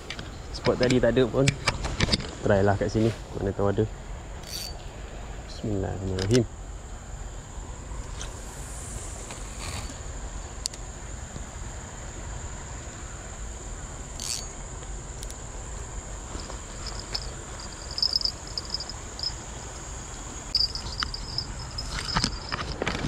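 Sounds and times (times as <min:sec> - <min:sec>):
insect chirping trill: 0:00.0 - 0:23.0
insects buzzing: 0:00.0 - 0:23.0.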